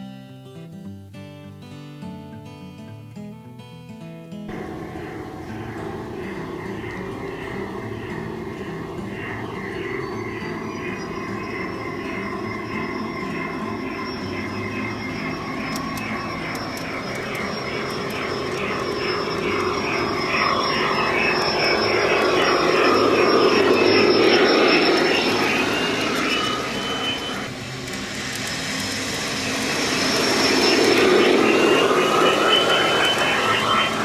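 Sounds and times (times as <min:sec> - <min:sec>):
model train running on track: 0:04.5 - 0:34.0.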